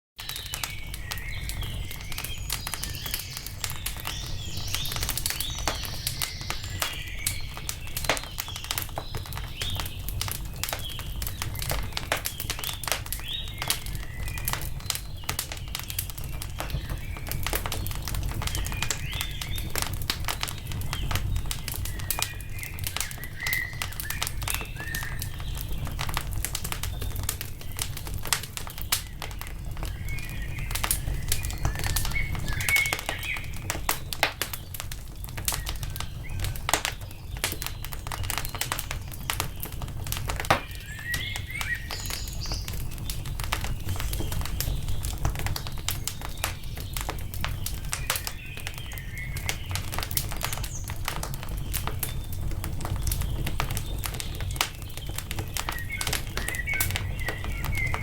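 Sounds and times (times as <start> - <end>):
small birds chirping: 0.2 - 58.0
wood fire crackling: 0.2 - 58.0.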